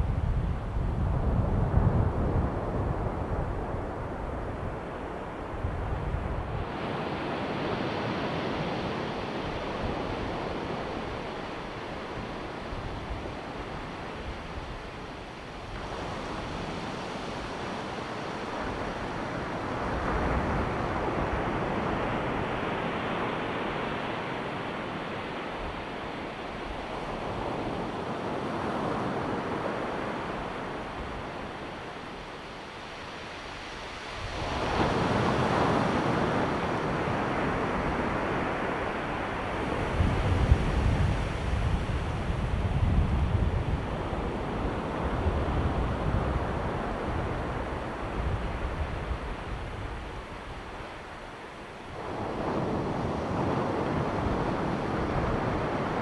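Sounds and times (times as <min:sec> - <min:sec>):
wind buffeting microphone: 0:00.0 - 0:25.8, 0:33.5 - 0:51.2, 0:51.8 - 0:56.0
ocean surf washing onto beach: 0:00.0 - 0:56.0.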